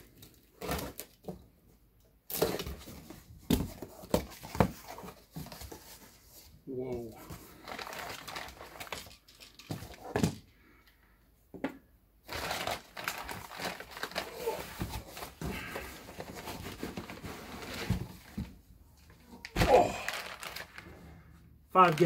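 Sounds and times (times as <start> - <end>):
plastic rustling and crinkling: 2.3 - 10.4, 12.2 - 22.0.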